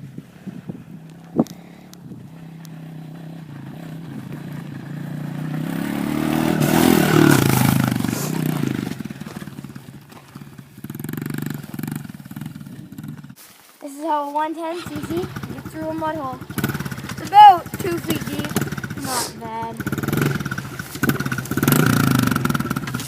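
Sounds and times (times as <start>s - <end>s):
dirt bike engine running: 0.0s - 13.4s, 14.1s - 23.0s.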